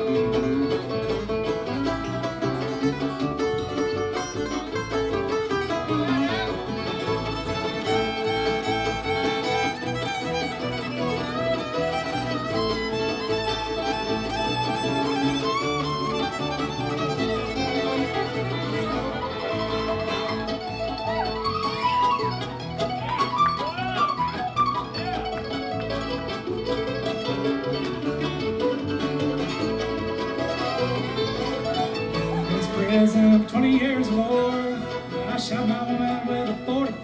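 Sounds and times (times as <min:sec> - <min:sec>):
bluegrass band playing: 0:00.0 - 0:37.0
fiddle: 0:00.0 - 0:37.0.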